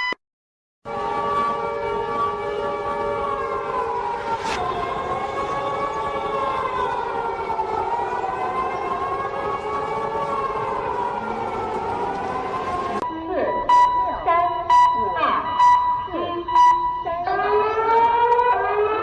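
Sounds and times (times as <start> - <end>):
siren wailing: 0.8 - 19.0.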